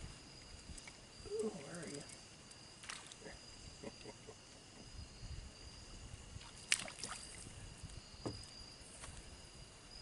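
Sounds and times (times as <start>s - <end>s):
high insect tones: 0.0s - 10.0s.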